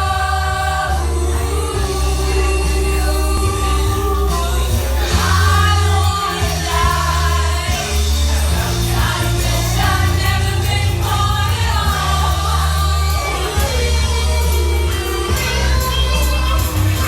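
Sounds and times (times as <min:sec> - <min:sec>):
heavy steady bass line: 0:00.0 - 0:17.0
sung melody: 0:00.0 - 0:17.0.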